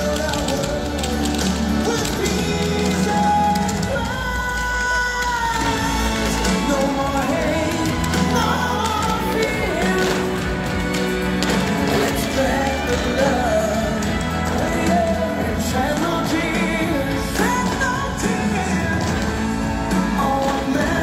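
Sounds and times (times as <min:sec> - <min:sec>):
pop music: 0:00.0 - 0:21.0.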